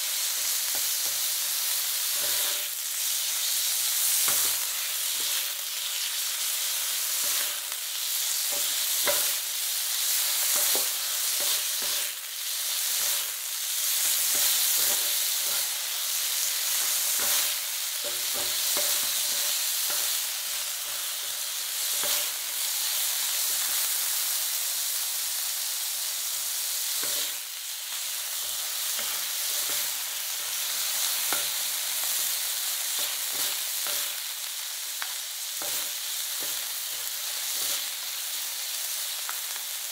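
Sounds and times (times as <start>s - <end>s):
beef and garlic sizzling on griddle: 0.0s - 39.9s.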